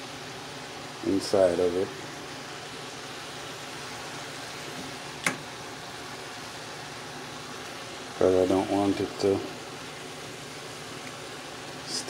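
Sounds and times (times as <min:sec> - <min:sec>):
vegetables hissing in a pot: 0:00.0 - 0:12.0.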